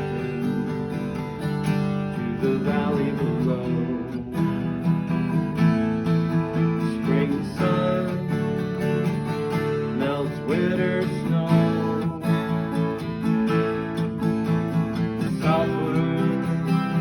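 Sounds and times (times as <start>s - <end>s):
acoustic guitar strumming: 0.0s - 17.0s
gliding guitar melody notes: 0.0s - 17.0s.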